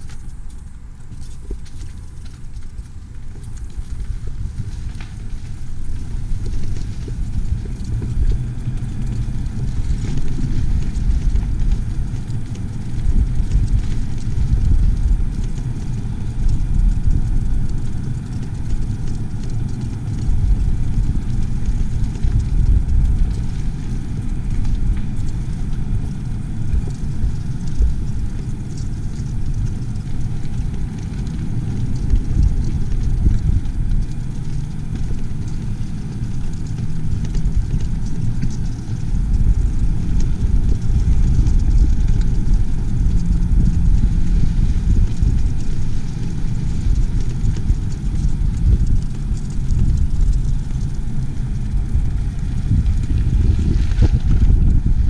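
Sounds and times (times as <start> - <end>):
vehicle rumbling: 0.0 - 55.0.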